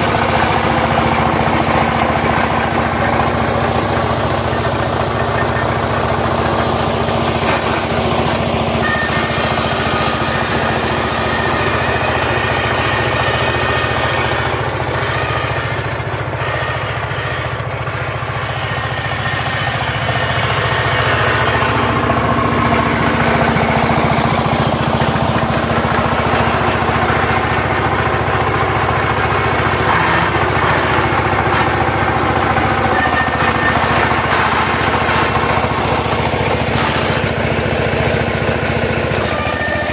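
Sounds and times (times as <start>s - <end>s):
diesel engine chugging: 0.0s - 39.9s
rotary tiller working soil: 0.0s - 39.9s.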